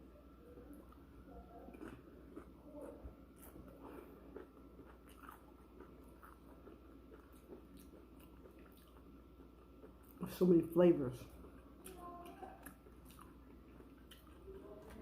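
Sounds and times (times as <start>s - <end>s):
person chewing crunchy chips: 1.7s - 10.2s, 11.3s - 15.0s.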